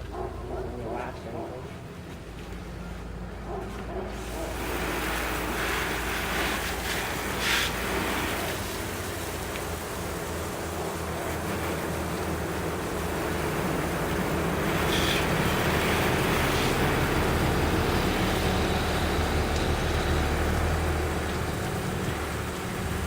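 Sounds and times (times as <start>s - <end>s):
hose spraying water: 3.7s - 23.0s.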